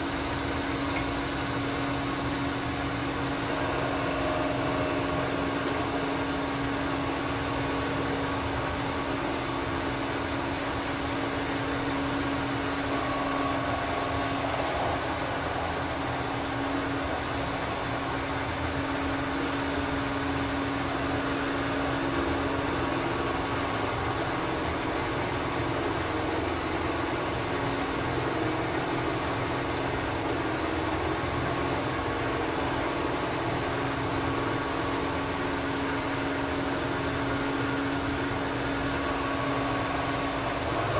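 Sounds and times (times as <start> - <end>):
milling machine motor hum: 0.0 - 40.9.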